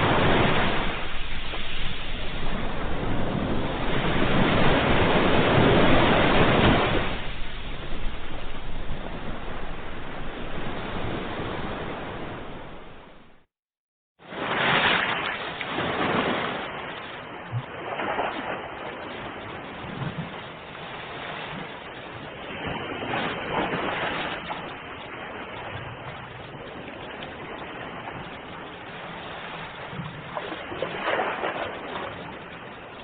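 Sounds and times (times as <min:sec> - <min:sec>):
ocean waves breaking: 0:00.0 - 0:13.5, 0:14.2 - 0:33.0.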